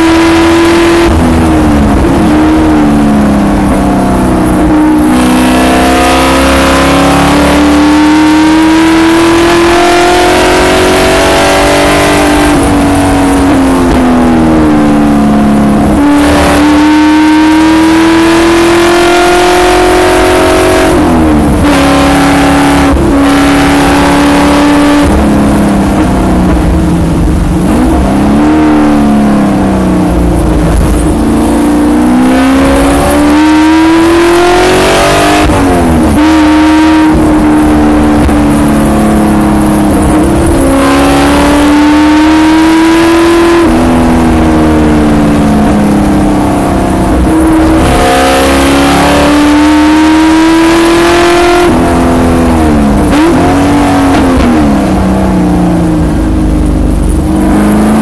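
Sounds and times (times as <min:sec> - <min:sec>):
racing engine at full throttle: 0:00.0 - 0:58.0.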